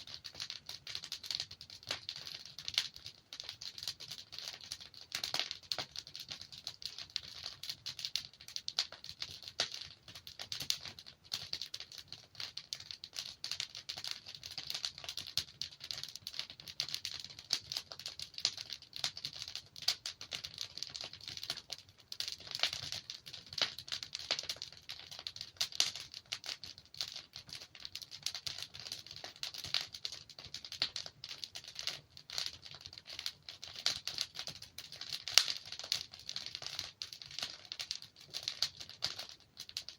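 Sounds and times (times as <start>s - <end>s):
burning logs crackling: 0.0s - 39.9s
faint low rumble of fire: 0.0s - 39.9s.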